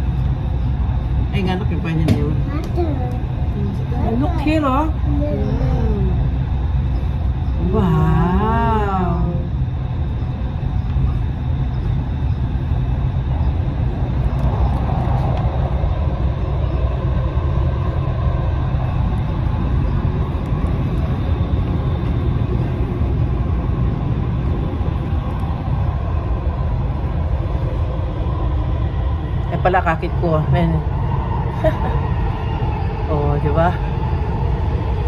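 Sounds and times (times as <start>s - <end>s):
metro train rumbling: 0.0s - 35.0s.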